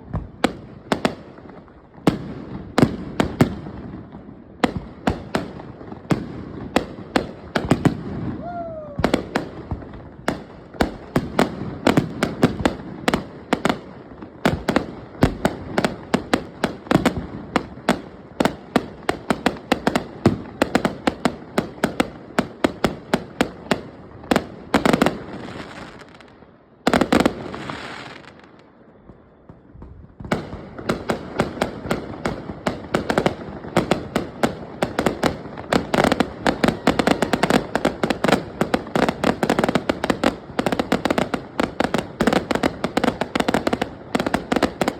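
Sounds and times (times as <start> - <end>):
fireworks popping and crackling: 0.0 - 44.9.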